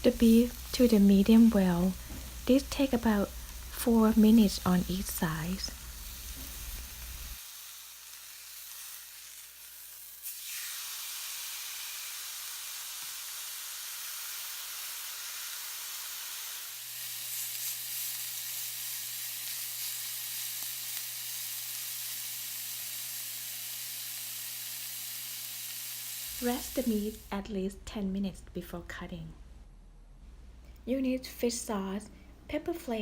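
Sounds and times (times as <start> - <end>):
steak sizzling: 0.0 - 27.3.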